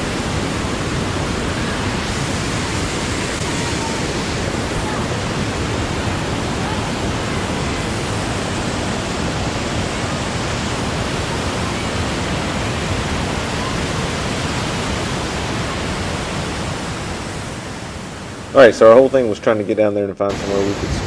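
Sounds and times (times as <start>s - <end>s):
waterfall rushing over rocks: 0.0s - 18.5s, 20.3s - 21.0s.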